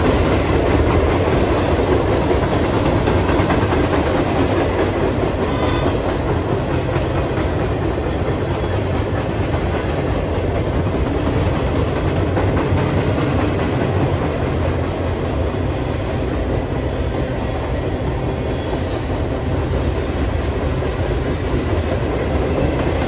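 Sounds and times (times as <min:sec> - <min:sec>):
freight train wheels rumbling on rails: 0:00.0 - 0:23.0.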